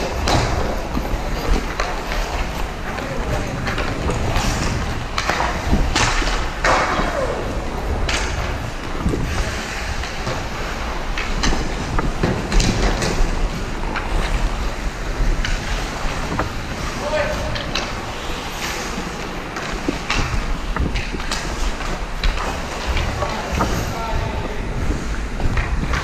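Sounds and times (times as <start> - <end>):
hockey sticks and puck clacking: 0.0 - 26.0
skate blades scraping ice: 0.0 - 26.0.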